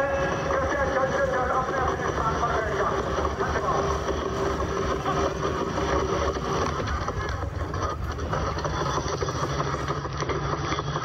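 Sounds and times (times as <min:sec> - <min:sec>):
din of large crowd: 0:00.0 - 0:11.0.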